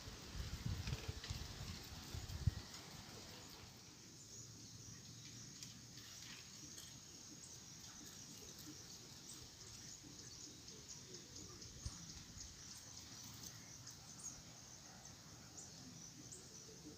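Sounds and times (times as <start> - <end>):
faint bird chirps: 2.1 - 16.9.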